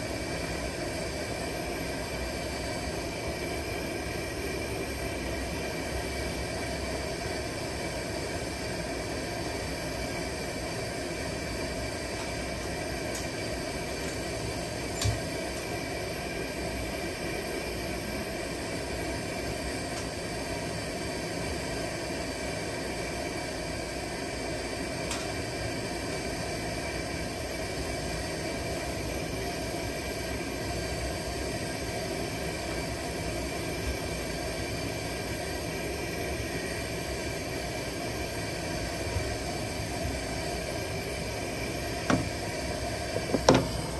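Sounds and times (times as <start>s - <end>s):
camp stove burner hissing: 0.0s - 43.9s.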